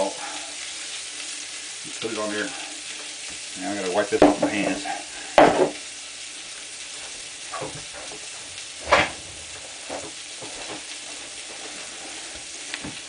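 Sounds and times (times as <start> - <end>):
steaks sizzling in a frying pan: 0.0 - 13.0.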